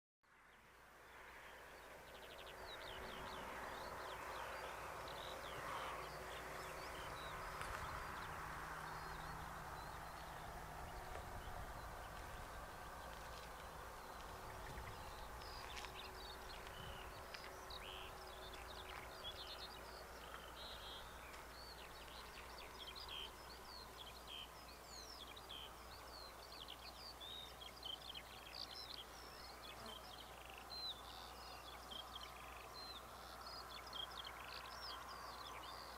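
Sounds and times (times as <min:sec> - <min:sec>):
wild birds singing and chirping: 0:01.4 - 0:35.9.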